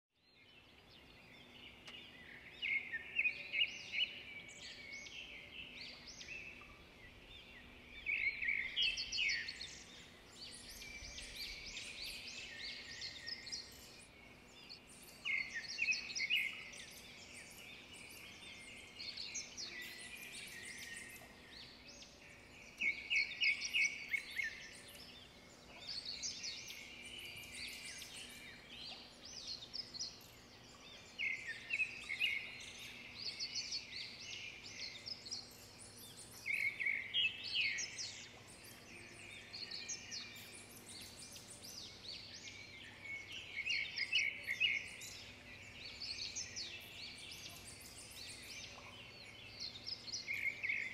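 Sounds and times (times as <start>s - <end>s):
birds chirping and trilling: 0.2s - 50.9s.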